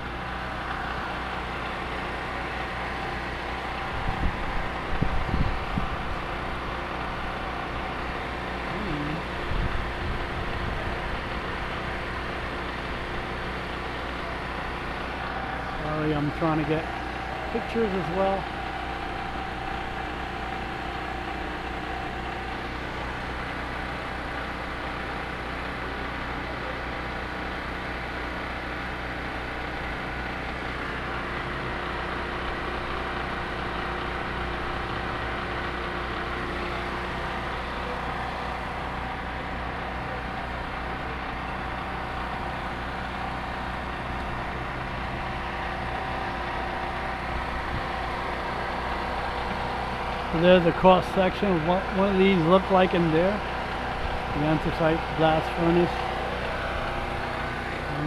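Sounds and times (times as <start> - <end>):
machine drone hum: 0.0 - 58.0.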